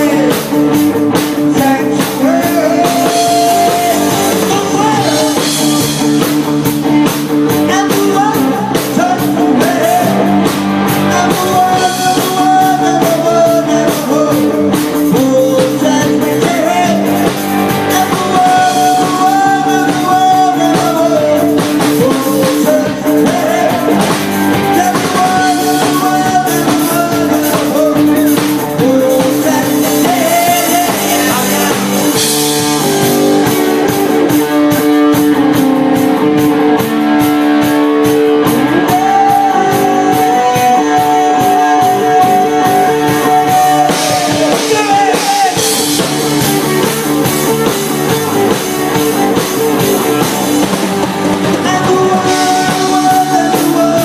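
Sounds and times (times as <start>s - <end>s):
male singer: 0.0s - 34.3s, 38.4s - 54.0s
drums and cymbals: 0.0s - 54.0s
electric guitar: 0.0s - 54.0s.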